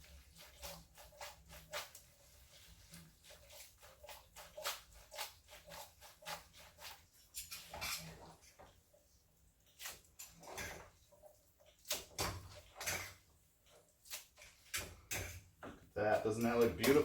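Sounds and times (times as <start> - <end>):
utensil clicking and scraping pan: 0.0 - 17.0.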